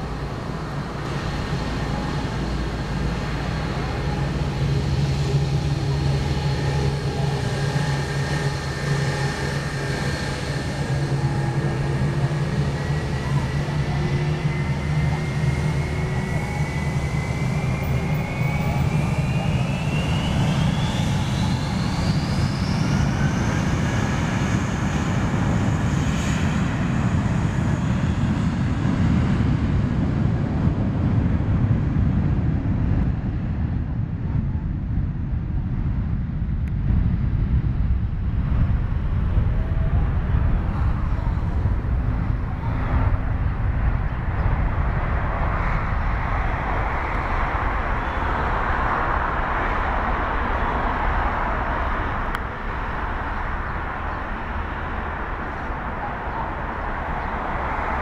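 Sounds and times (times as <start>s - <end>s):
jet engine roar: 0.0s - 58.0s
turbofan engine whine rising: 0.0s - 58.0s.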